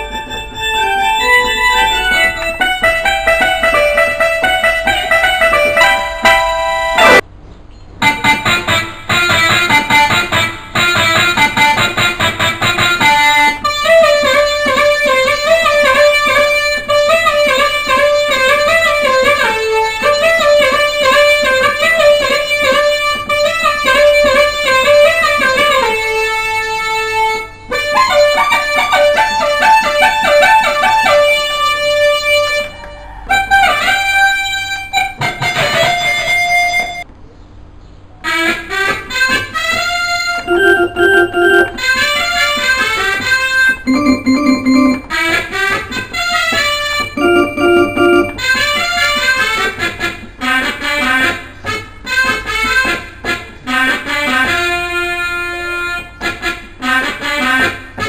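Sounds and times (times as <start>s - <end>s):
electronic keyboard plucked-string melody: 0.0s - 7.3s, 8.0s - 37.1s, 38.5s - 49.8s.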